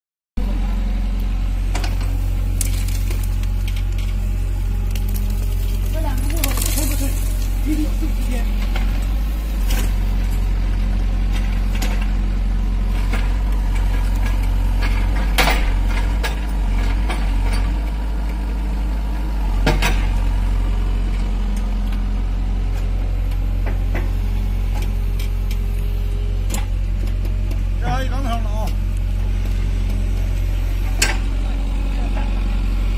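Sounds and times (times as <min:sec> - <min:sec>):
excavator diesel engine running: 0:00.4 - 0:32.9.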